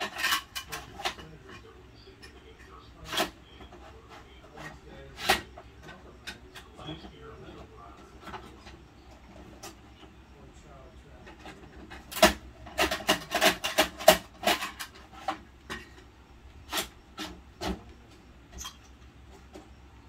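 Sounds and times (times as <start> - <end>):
plastic toys clattering: 0.0 - 9.8, 11.1 - 19.7.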